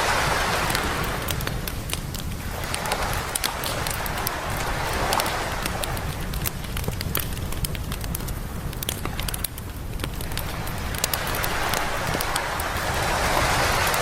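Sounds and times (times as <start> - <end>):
campfire crackling and popping: 0.0 - 14.0
surf rumbling: 0.0 - 14.0
wave washing in: 0.0 - 14.0.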